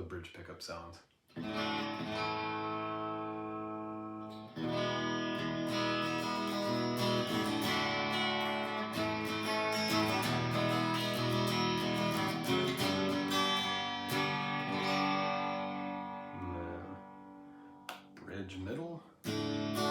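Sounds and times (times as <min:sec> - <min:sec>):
electric guitar chords strummed: 0:01.4 - 0:18.2, 0:19.2 - 0:19.9.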